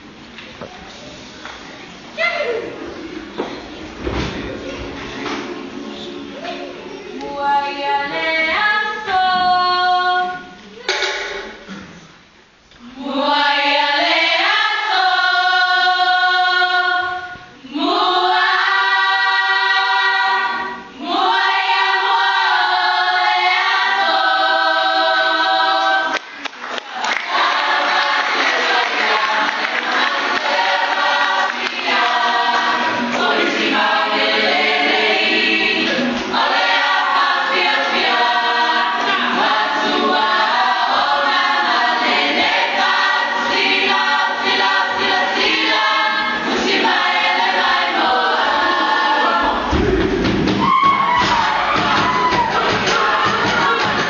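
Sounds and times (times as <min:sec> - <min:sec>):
group singing in harmony: 0:02.9 - 0:11.8, 0:12.8 - 0:54.0.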